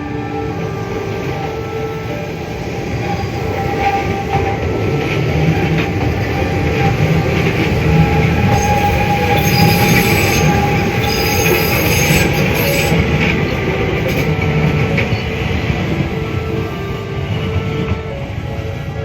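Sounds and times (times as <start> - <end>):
low train rumble: 0.0 - 19.0
train wheels squealing on rails: 0.0 - 19.0.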